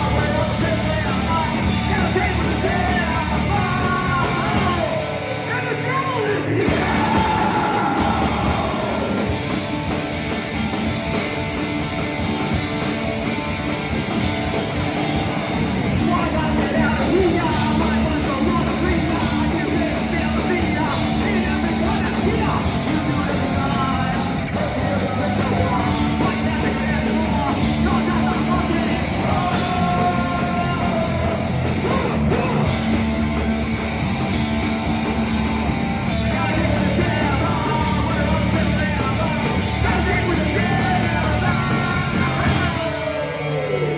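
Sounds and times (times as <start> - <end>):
loud rock music with singing: 0.0 - 43.9.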